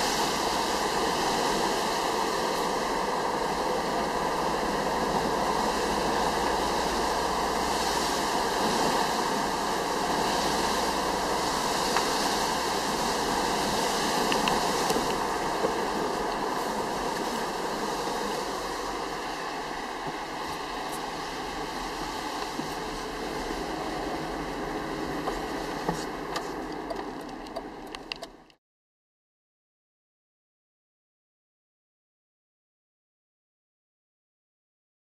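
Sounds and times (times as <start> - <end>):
tyres hissing on wet road: 0.0 - 28.2.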